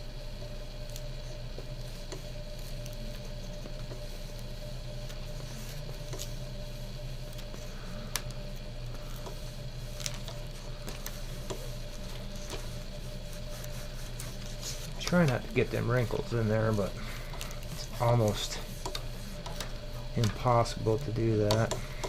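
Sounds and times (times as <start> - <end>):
quiet steady hum: 0.0 - 22.0
iron sliding over plastic film: 0.4 - 22.0.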